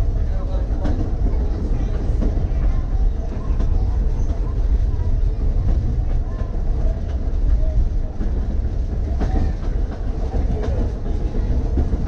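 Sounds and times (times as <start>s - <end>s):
railcar wheels rumbling: 0.0s - 12.0s
wheels clicking over rail joints: 0.1s - 12.0s.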